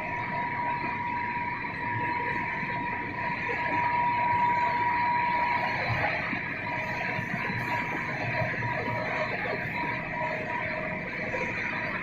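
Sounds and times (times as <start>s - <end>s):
high machine whine: 0.0s - 12.0s.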